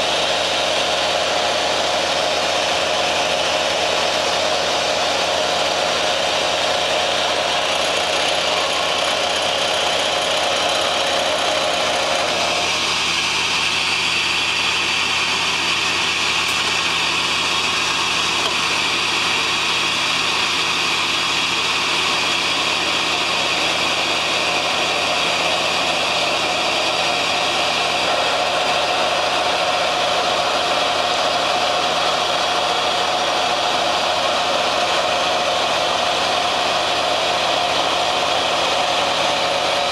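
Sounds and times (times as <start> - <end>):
machine hum and hiss: 0.0 - 39.9.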